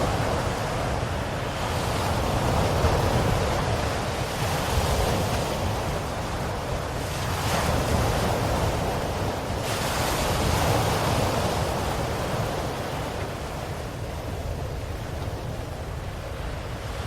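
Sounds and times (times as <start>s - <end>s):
ocean waves on shore: 0.0s - 17.0s.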